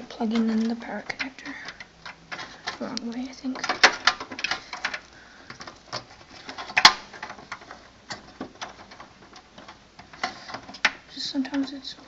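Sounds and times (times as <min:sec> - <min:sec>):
cables rustling: 0:00.0 - 0:12.0.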